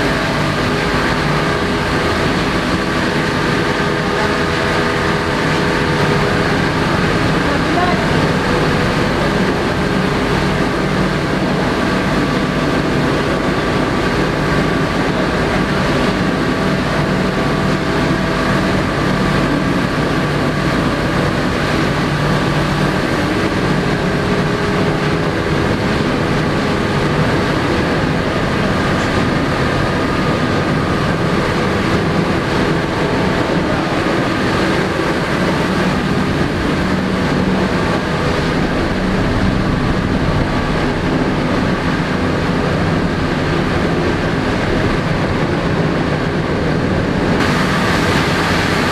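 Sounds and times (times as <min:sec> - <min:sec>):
engine room machinery drone: 0:00.0 - 0:48.9.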